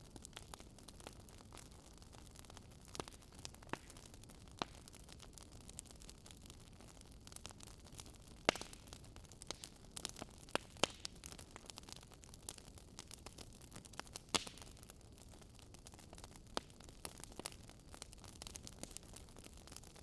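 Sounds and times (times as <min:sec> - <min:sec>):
soft steady hiss of fire: 0:00.0 - 0:20.0
wood fire crackling and popping: 0:00.0 - 0:20.0.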